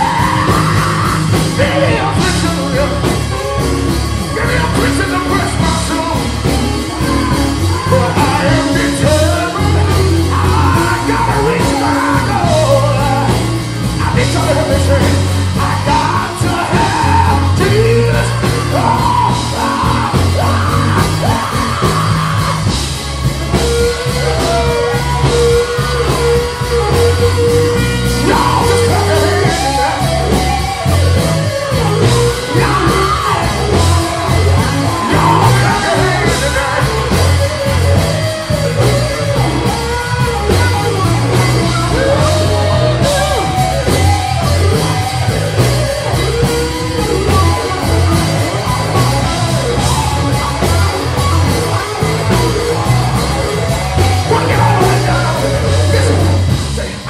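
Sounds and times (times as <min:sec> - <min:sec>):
man singing into a microphone: 0:00.0 - 0:22.8, 0:23.8 - 0:39.0, 0:40.4 - 0:46.2, 0:53.5 - 0:57.0
gospel band playing: 0:00.0 - 0:57.0.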